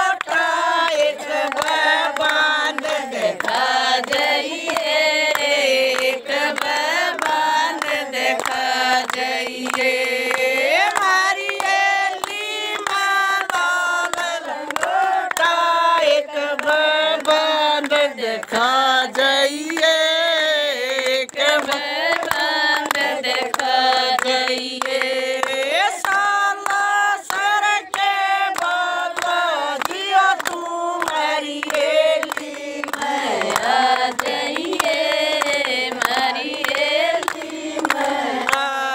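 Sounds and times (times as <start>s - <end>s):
hand-claps keeping time: 0.0s - 38.9s
women singing in unison: 0.0s - 38.9s.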